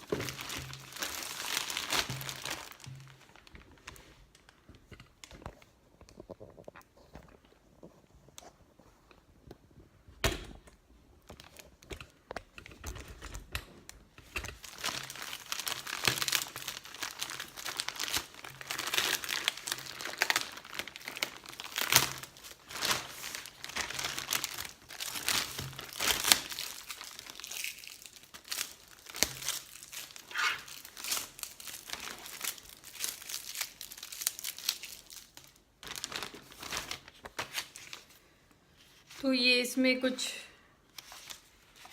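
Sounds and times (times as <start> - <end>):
packaging crinkling and tearing: 0.0 - 6.9, 11.2 - 38.2, 40.9 - 41.9.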